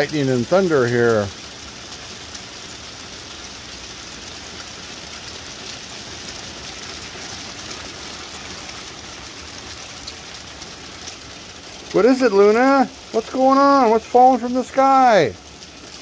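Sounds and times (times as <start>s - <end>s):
hailstones pattering: 0.0s - 16.0s.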